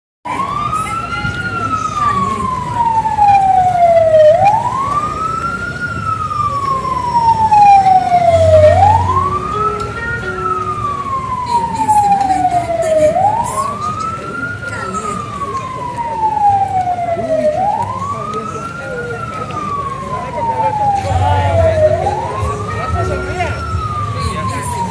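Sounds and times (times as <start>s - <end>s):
siren wailing: 0.3s - 24.9s.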